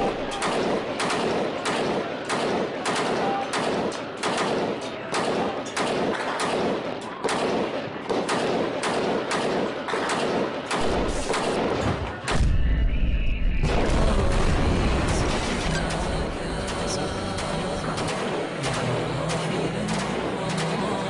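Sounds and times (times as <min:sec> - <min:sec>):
small-arms gunfire: 0:00.0 - 0:12.6, 0:13.6 - 0:21.0.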